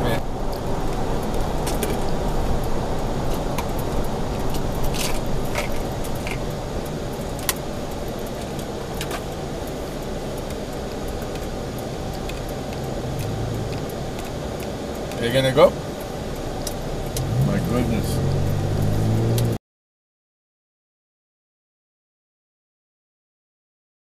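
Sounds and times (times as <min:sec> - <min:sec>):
car road and engine noise: 0:00.0 - 0:19.6.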